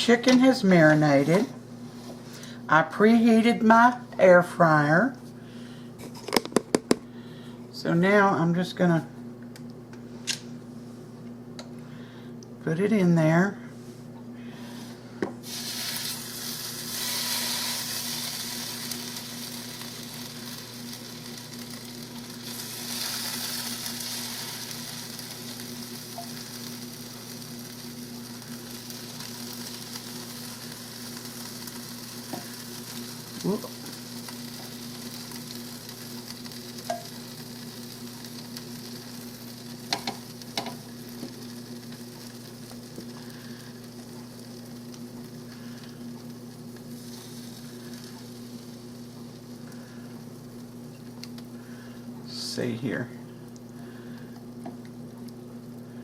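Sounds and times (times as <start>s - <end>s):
chicken sizzling: 0.0s - 3.9s, 14.4s - 56.0s.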